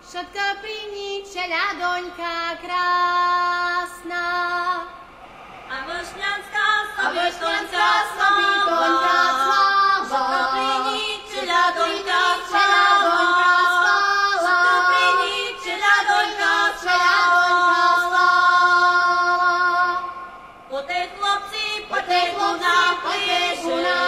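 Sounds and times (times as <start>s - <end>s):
women singing folk song: 0.0s - 5.0s, 5.7s - 24.0s.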